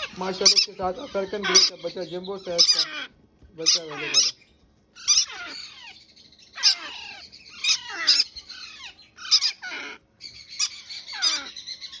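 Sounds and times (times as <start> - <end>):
parrot chicks squawking: 0.0 - 12.0.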